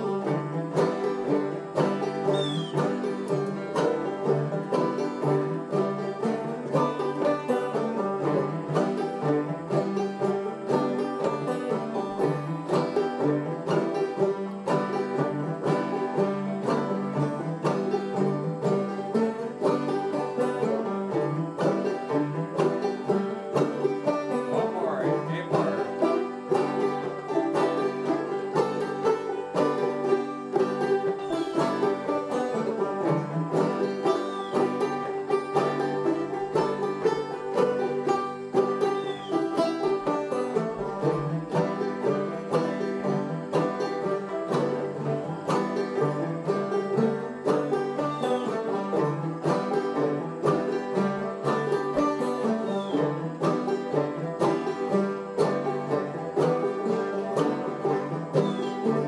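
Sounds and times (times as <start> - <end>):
banjos playing string-band tune: 0.0 - 59.0.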